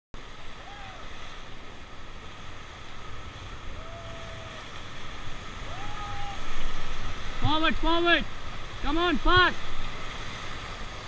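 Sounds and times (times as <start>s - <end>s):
roar of rushing rapids: 0.2s - 11.0s.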